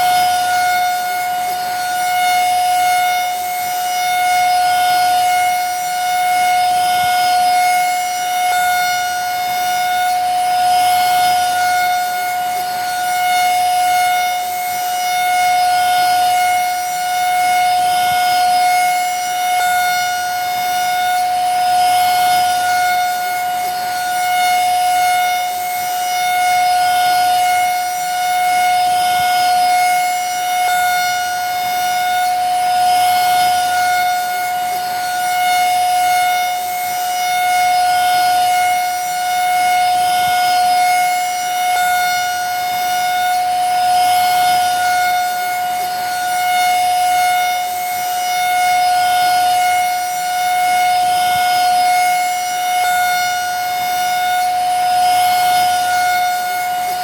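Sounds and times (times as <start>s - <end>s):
vacuum cleaner motor whining: 0.0s - 57.0s.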